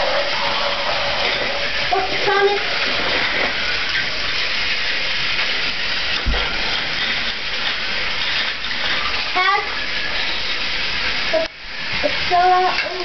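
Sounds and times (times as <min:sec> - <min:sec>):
toy trains whirring: 0:00.0 - 0:13.0.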